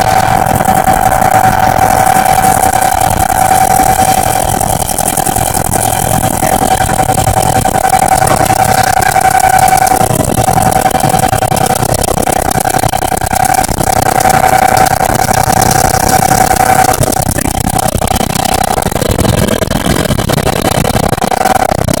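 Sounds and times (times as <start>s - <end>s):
helicopter engine and rotor noise: 0.0s - 22.0s
high whine: 0.0s - 22.0s.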